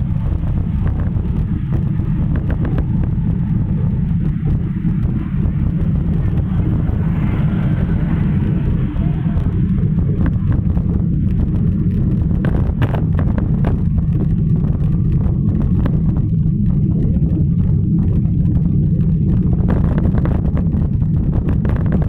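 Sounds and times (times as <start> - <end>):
low wind rumble on microphone: 0.0 - 22.0.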